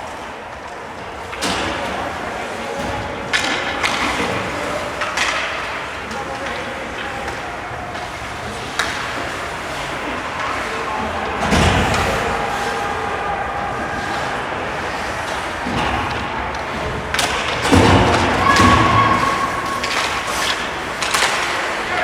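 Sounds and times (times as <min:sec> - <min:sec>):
murmur of voices: 0:00.0 - 0:22.0
heavy thuds against rink boards: 0:02.8 - 0:22.0.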